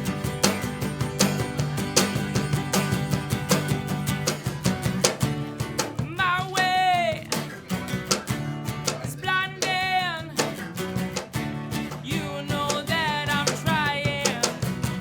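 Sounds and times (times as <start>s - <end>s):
drum beat: 0.0s - 15.0s
guitar strumming: 0.0s - 15.0s.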